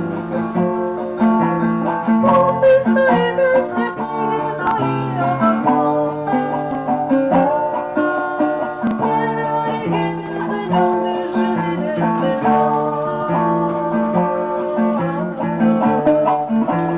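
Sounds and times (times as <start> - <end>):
acoustic guitar playing: 0.0 - 16.9.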